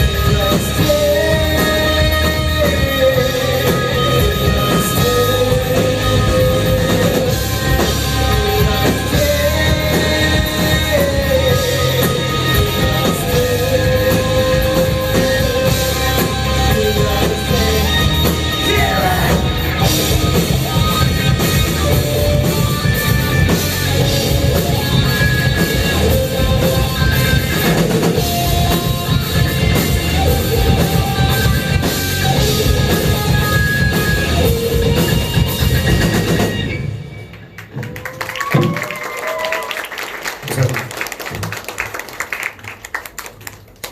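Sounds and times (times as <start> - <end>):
electric guitar lead notes: 0.0 - 37.6
live rock band playing: 0.0 - 43.5.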